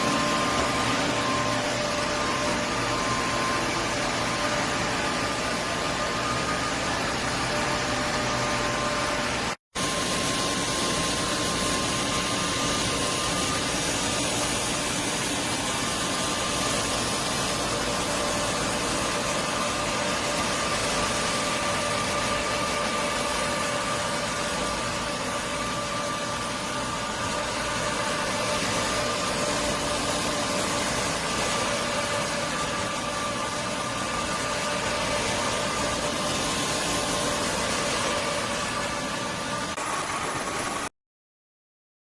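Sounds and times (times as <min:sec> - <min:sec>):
vacuum motor running: 0:00.0 - 0:40.9.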